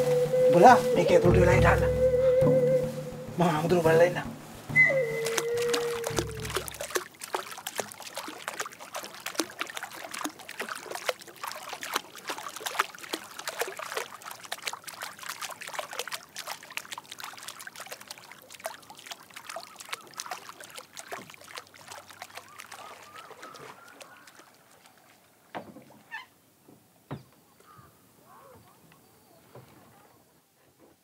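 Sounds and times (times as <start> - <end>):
river water splashing and trickling: 0.0 - 30.3.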